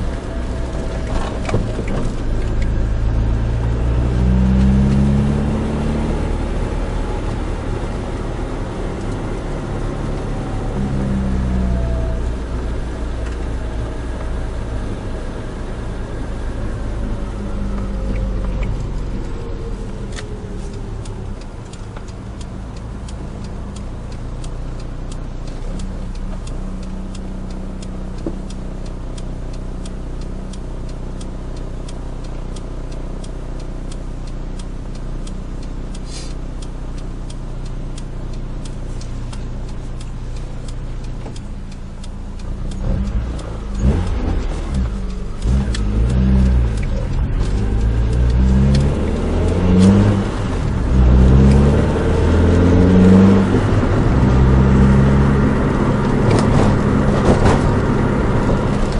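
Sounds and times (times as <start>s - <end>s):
car engine humming: 0.0s - 58.9s
road noise: 0.0s - 58.9s.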